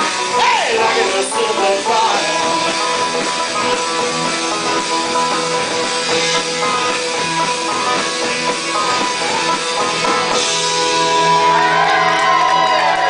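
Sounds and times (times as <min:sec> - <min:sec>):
drums: 0:00.0 - 0:13.0
live band playing rock: 0:00.0 - 0:13.0
strummed guitars: 0:00.0 - 0:13.0.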